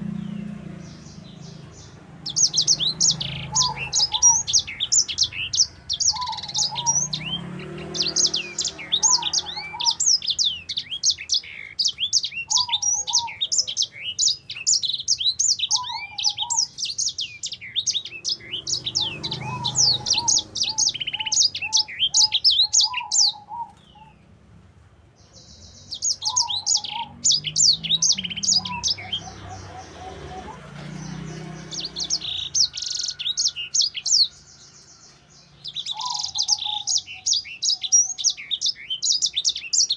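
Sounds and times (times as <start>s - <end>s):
finch singing trills and chirps: 0.0s - 24.4s, 25.2s - 39.9s.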